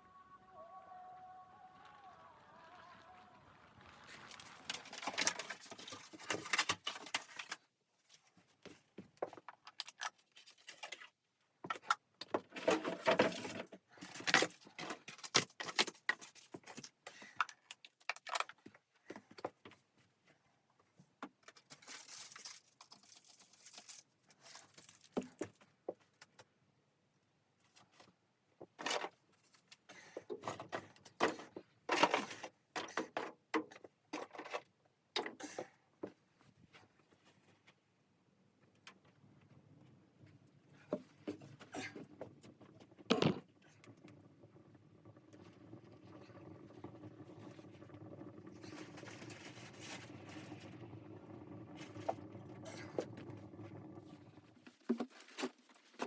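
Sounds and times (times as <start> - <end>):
objects clattering and rustling: 4.2 - 19.8, 21.2 - 26.1, 27.7 - 37.9, 38.7 - 56.0.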